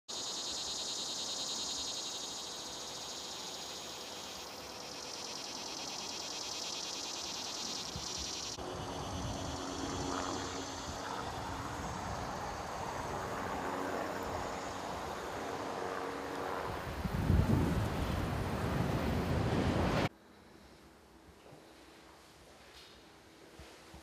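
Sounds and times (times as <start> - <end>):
cicadas buzzing: 0.1 - 20.5.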